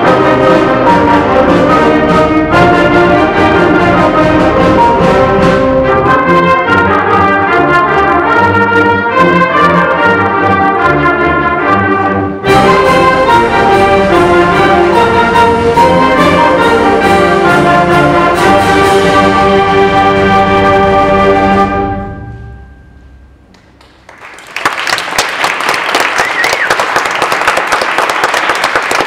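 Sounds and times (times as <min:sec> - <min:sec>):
concert band playing: 0:00.0 - 0:24.1.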